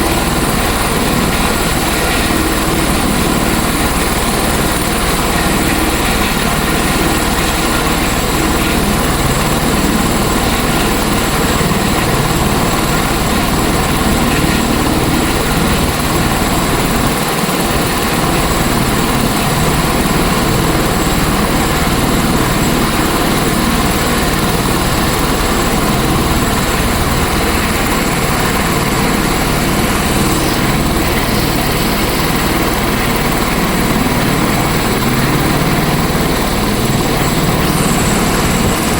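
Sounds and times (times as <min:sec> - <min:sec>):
helicopter turbine and rotor drone: 0:00.0 - 0:38.9.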